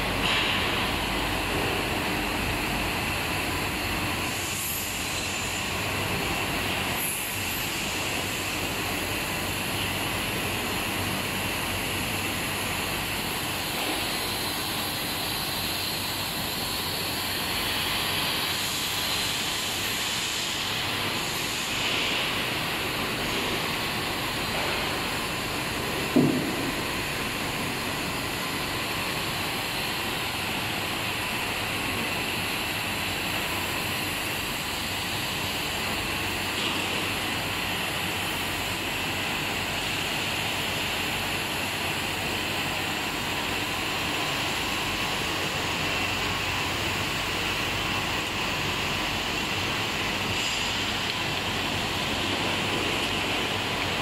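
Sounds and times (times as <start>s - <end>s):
factory background noise: 0.0s - 54.0s.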